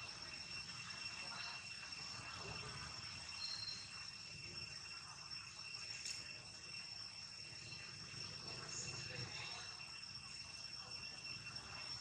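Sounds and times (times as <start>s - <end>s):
insect chorus shrill drone: 0.0s - 12.0s.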